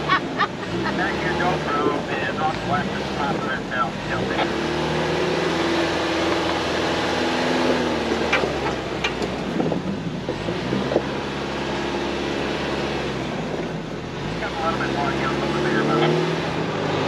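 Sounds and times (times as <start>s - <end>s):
engine running at low speed: 0.0s - 17.0s.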